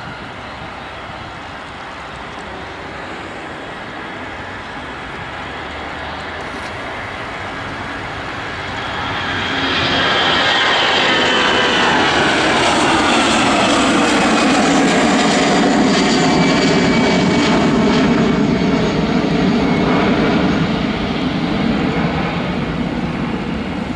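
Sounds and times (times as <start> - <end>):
high engine whine: 0.0 - 23.9
jet engines taxiing: 0.0 - 23.9.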